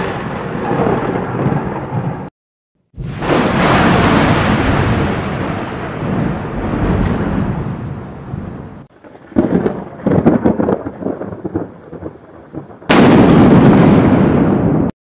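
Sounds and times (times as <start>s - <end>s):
rolling thunder: 0.0s - 2.3s, 3.0s - 14.9s
thunder clap: 0.0s - 2.3s, 2.9s - 14.9s.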